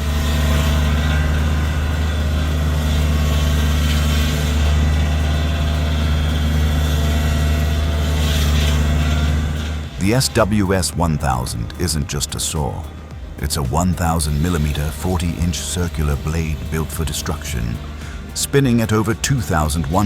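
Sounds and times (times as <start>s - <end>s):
large machine engine droning: 0.0s - 20.0s.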